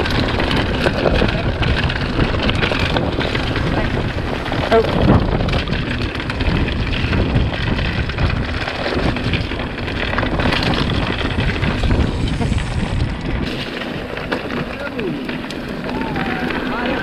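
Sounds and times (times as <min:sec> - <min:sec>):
bike rattling over stones: 0:00.0 - 0:17.0
tyres crunching on gravel: 0:00.0 - 0:17.0
wind on microphone: 0:00.0 - 0:17.0.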